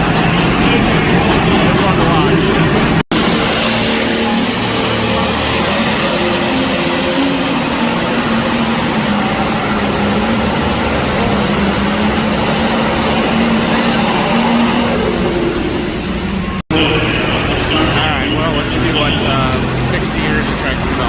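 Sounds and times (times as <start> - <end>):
high whine: 0.0 - 21.0
tractor diesel engine at full throttle: 0.0 - 21.0.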